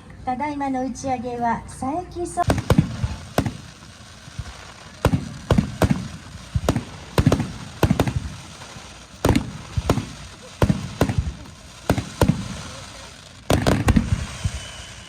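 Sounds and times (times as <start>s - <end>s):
firework shells bursting: 2.4s - 15.0s.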